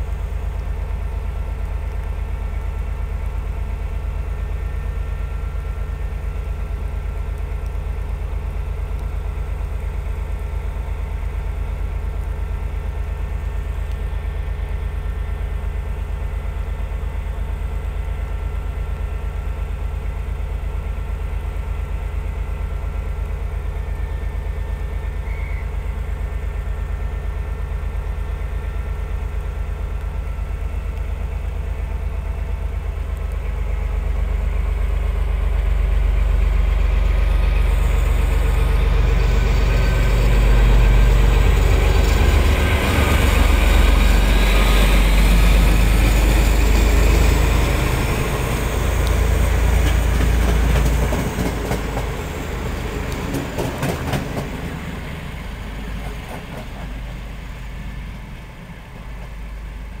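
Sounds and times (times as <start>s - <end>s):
passenger train passing: 0.0s - 60.0s.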